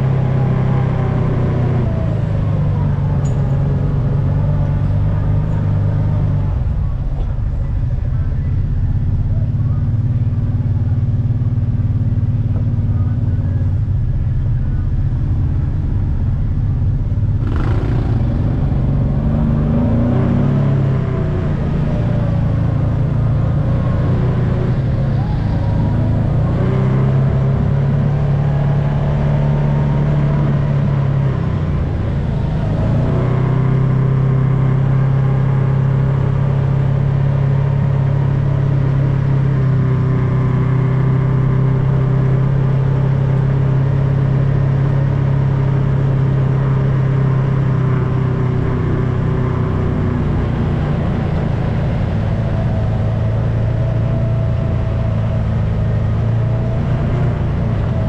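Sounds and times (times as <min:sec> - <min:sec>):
utility vehicle engine drone: 0:00.0 - 0:58.0.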